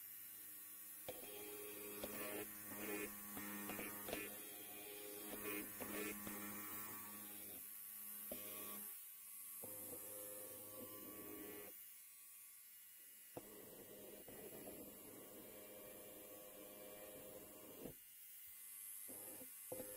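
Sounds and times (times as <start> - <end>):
electric hair clipper buzzing: 0.0 - 19.9.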